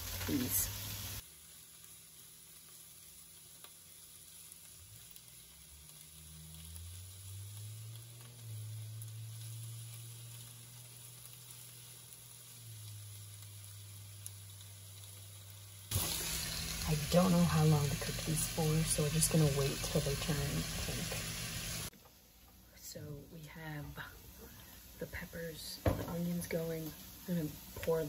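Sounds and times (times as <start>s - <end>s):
food sizzling in frying pan: 0.0s - 22.0s, 24.2s - 28.0s.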